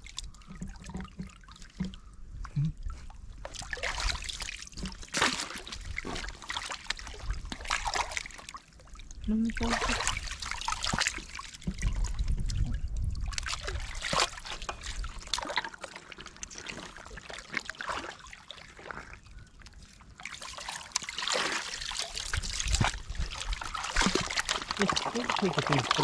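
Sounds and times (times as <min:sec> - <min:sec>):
water splashing and sloshing: 0:00.0 - 0:26.0
water trickling and dripping: 0:00.0 - 0:26.0.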